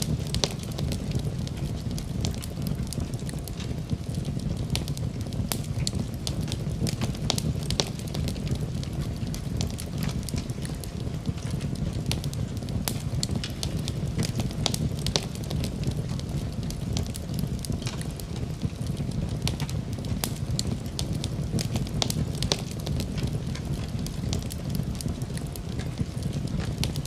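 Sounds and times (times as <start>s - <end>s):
fire pops and snaps: 0.0s - 27.0s
low rumble of flames: 0.0s - 27.0s.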